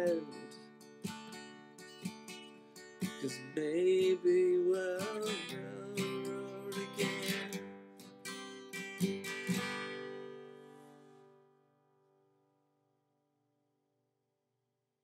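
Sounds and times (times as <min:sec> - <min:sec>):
acoustic guitar strumming: 0:00.0 - 0:12.3.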